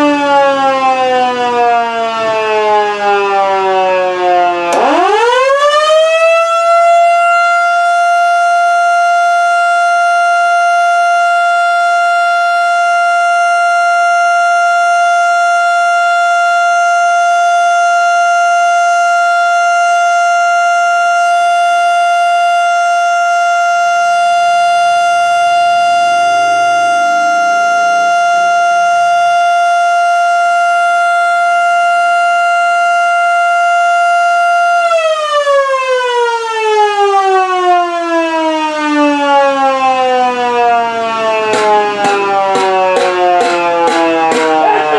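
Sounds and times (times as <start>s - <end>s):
mechanical siren steady tone: 0.0s - 44.9s.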